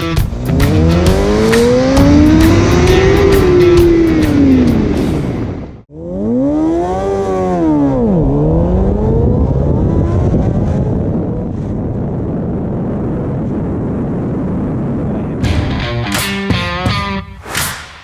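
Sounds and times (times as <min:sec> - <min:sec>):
motorcycle engine accelerating: 0:00.0 - 0:15.1
wind and road noise: 0:00.0 - 0:15.9.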